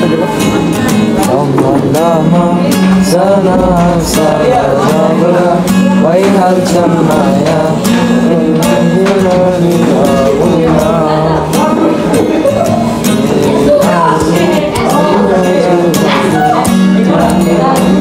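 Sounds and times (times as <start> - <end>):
acoustic guitar strumming: 0.0 - 18.0
person singing: 0.0 - 18.0.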